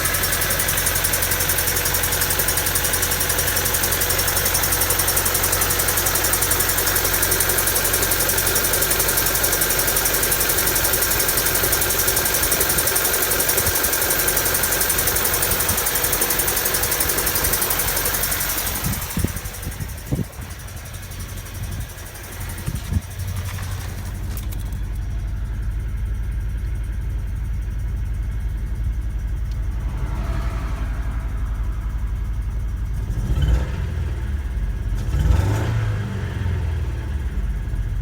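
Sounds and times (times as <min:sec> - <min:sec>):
engine idling roughly with knock: 0:00.0 - 0:38.0.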